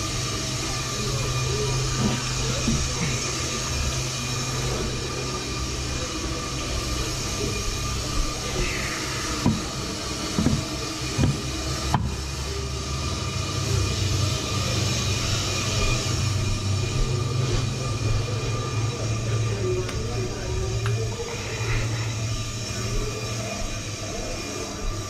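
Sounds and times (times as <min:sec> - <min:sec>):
brake lathe humming: 0:00.0 - 0:25.0
hiss of lathe cutting rotor: 0:00.0 - 0:25.0.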